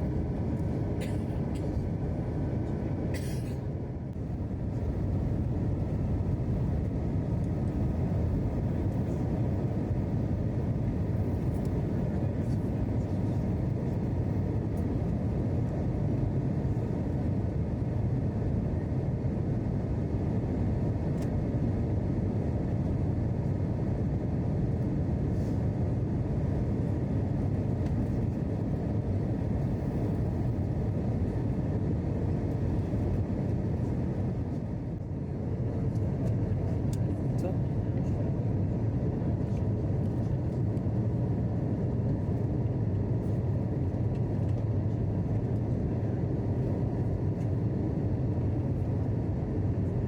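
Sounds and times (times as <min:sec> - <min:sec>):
airplane cabin engine roar: 0:00.0 - 0:50.0.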